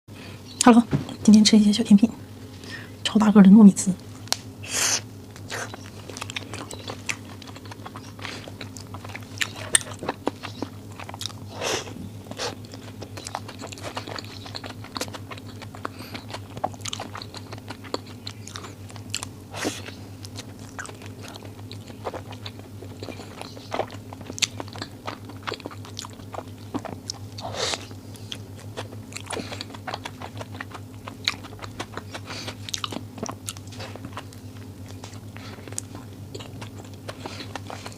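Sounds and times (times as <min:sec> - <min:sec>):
steady low hum: 0:00.1 - 0:37.9
wet mouth chewing smacks: 0:05.0 - 0:37.9.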